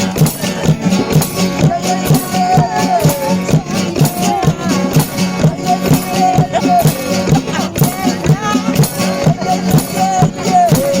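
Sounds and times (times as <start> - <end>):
music with steady beat: 0.0 - 11.0
shaker percussion: 0.0 - 11.0.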